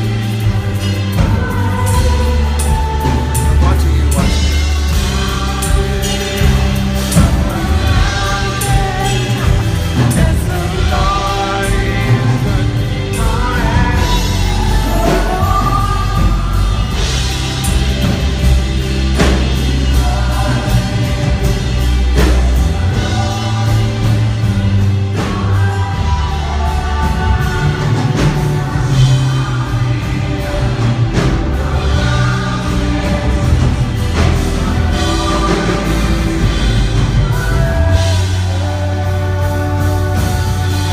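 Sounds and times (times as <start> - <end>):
choir-like backing vocals: 0.0 - 40.9
person singing: 0.0 - 40.9
regular drum beat: 0.0 - 40.9
steady bass: 0.0 - 40.9.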